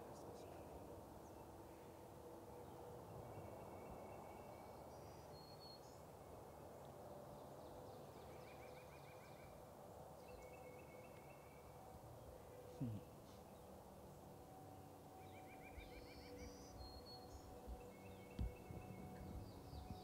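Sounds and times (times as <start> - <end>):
distant songbirds calling: 0.0 - 9.6, 10.2 - 20.0.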